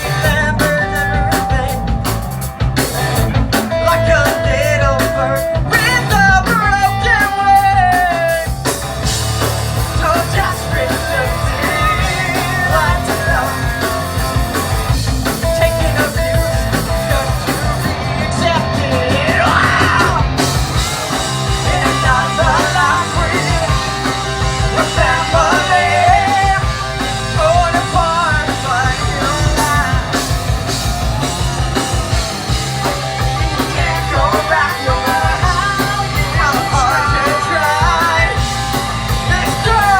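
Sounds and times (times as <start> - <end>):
live rock band with singer: 0.0 - 39.9.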